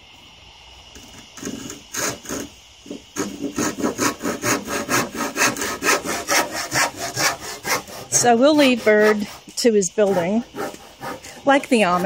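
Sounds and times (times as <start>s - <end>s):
handsaw cutting wood: 1.4s - 12.0s.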